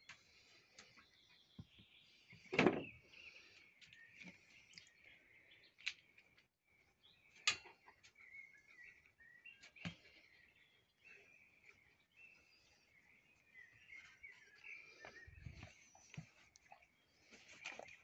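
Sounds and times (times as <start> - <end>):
birds chirping and singing: 0.0 - 18.0.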